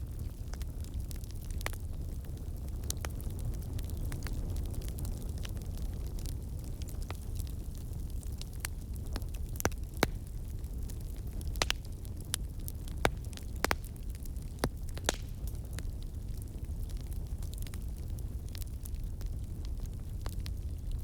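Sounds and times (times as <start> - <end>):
burning logs popping and snapping: 0.0 - 21.0
low rumble of flames: 0.0 - 21.0.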